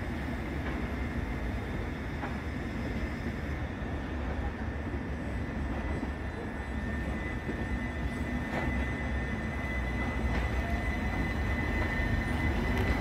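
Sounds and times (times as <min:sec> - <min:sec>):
train high whine: 0:00.0 - 0:13.0
train low rumble: 0:00.0 - 0:13.0.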